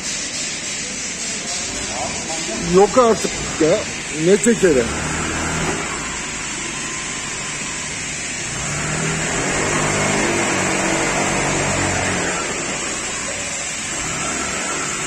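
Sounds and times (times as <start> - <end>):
scooter engine running: 1.6 - 15.0.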